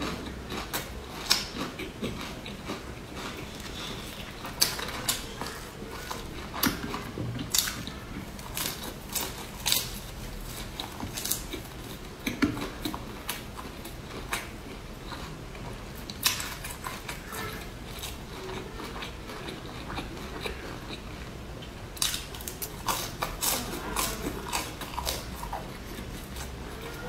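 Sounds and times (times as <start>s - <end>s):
crisp biting and chewing: 0.0s - 21.0s, 22.0s - 27.0s.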